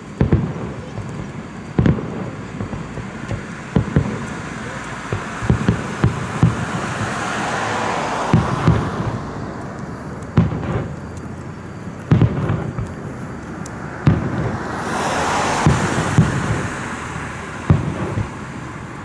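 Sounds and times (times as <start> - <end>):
fireworks bangs: 0.0 - 19.0
rushing background noise: 0.0 - 19.0.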